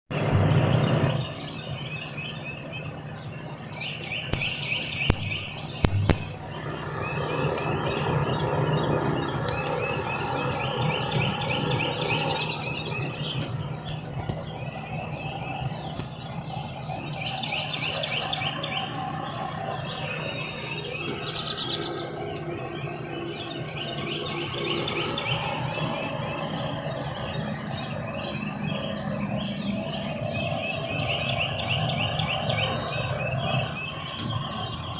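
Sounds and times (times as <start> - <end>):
birds chirping and trilling: 0.1 - 34.9
steady low hum: 0.1 - 34.9.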